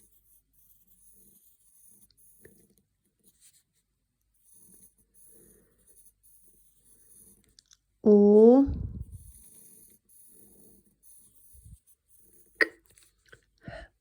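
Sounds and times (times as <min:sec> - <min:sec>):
pen scratching on paper: 0:00.0 - 0:07.6, 0:09.0 - 0:13.2.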